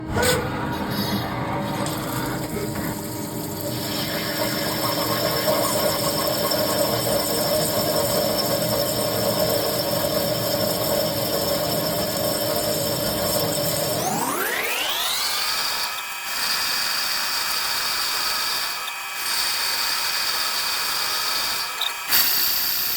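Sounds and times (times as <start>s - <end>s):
machine motor whining: 0.0s - 22.9s.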